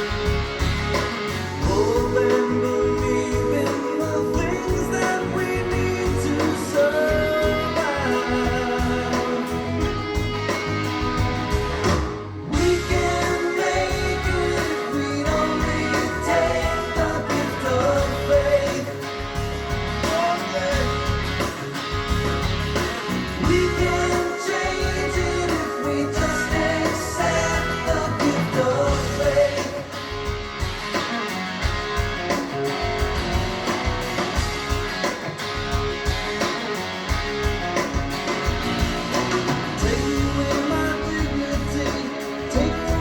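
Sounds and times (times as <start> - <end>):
song with singer and guitar: 0.0 - 43.0.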